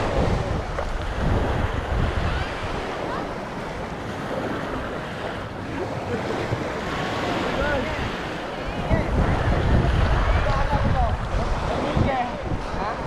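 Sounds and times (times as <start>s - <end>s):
small waves on sandy beach: 0.0s - 13.0s
wind buffeting microphone: 0.0s - 13.0s.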